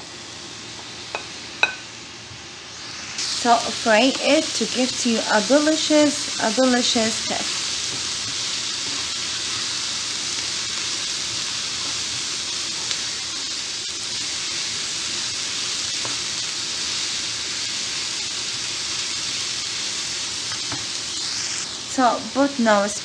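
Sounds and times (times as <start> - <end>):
vegetables sizzling in a frying pan: 0.0 - 23.0.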